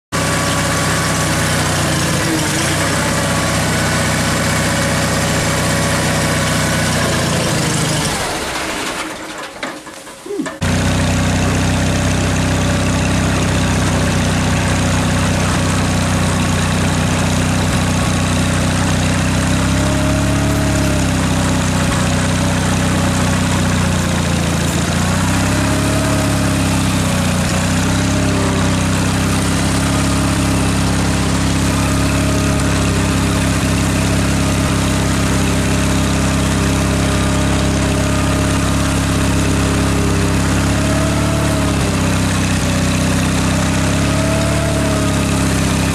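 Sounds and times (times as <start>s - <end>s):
tractor engine idling: 0.2s - 45.9s.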